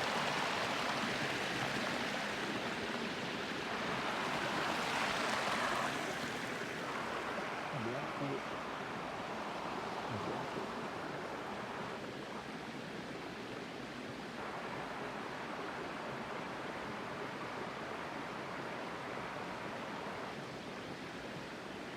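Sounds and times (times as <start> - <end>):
small waterfall splashing: 0.0 - 21.9.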